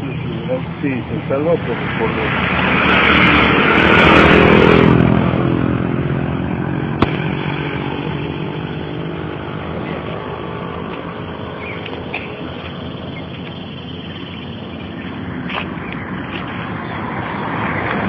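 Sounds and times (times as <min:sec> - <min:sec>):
motor vehicle passing: 0:00.0 - 0:18.0.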